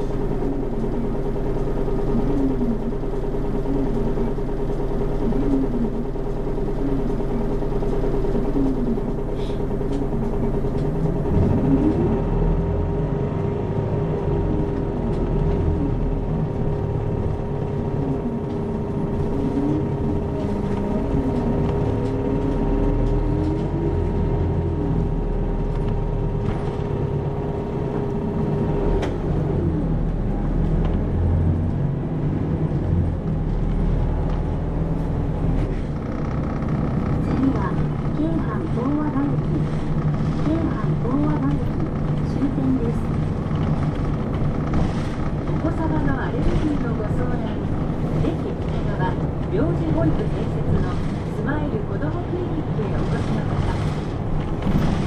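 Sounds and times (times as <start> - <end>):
bus engine rumble: 0.0 - 55.0.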